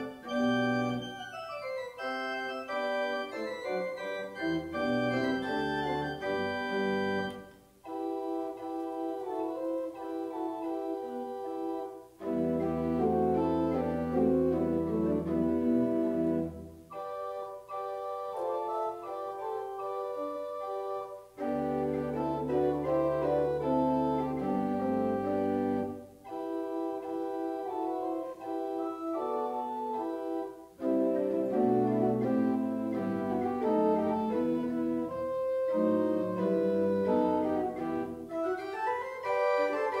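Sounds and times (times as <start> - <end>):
deep organ pedal notes: 0.0 - 40.0
organ chords: 0.0 - 40.0.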